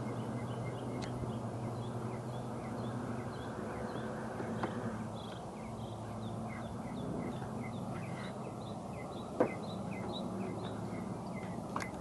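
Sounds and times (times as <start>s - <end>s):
birds chirping: 0.0s - 12.0s
low steady hum: 0.0s - 12.0s.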